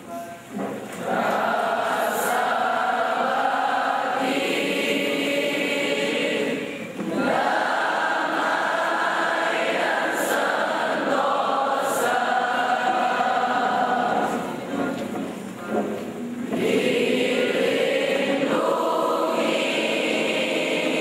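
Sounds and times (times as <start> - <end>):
students singing a hymn: 1.0 - 21.0.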